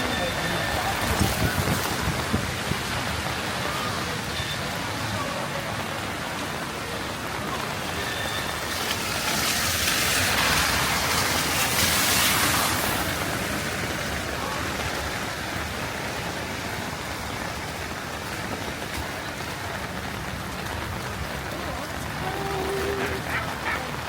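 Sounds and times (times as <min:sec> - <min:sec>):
heavy rain on street: 0:00.0 - 0:24.0.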